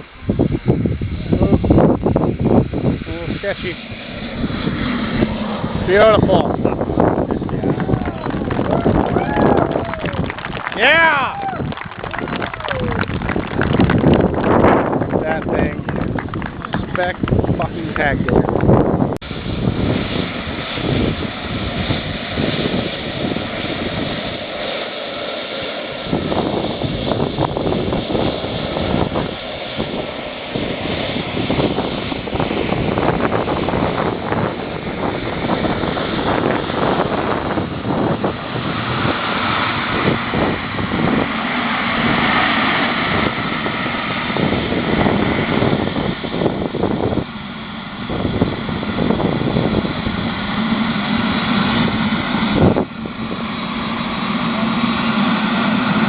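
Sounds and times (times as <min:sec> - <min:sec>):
high turbine whine: 0:00.0 - 0:56.0
model jet turbine engines running: 0:00.0 - 0:56.0.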